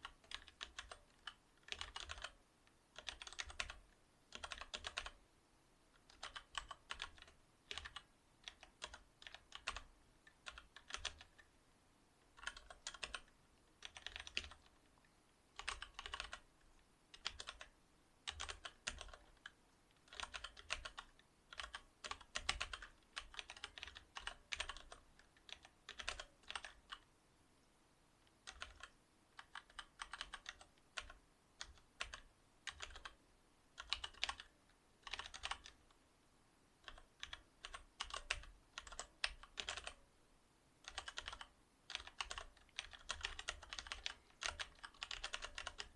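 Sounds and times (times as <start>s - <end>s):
mechanical keyboard typing: 0.0s - 5.2s, 5.9s - 11.5s, 12.3s - 14.8s, 15.6s - 16.4s, 17.1s - 27.1s, 28.4s - 33.2s, 33.8s - 35.9s, 36.8s - 40.0s, 40.8s - 45.9s.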